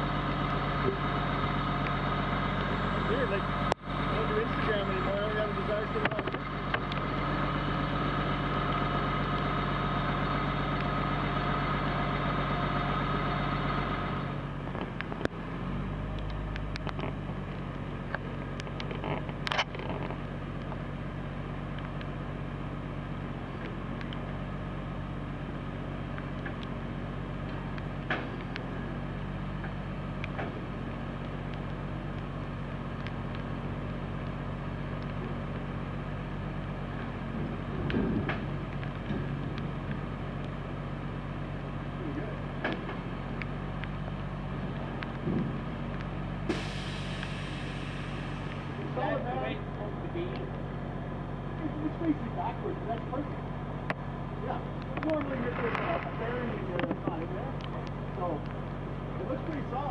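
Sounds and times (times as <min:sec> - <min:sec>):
hoisting machine engine running: 0:00.0 - 0:59.9.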